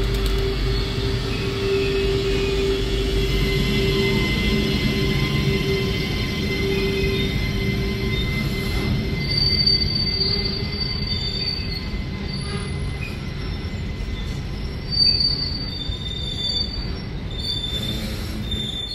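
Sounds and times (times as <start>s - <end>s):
high-pitched wheel squeals: 0.0s - 18.9s
train wheels rumbling on rail: 0.0s - 18.9s.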